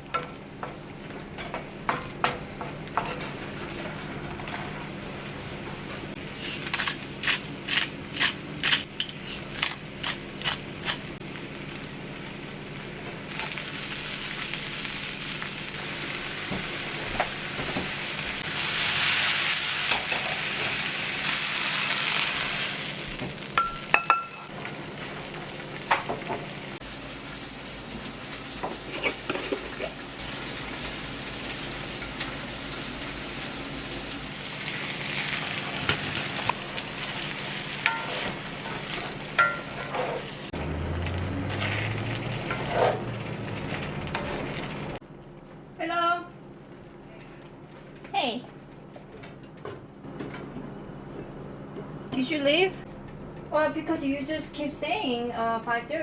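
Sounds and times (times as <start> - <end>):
food frying with sizzling hiss: 0.0 - 45.0.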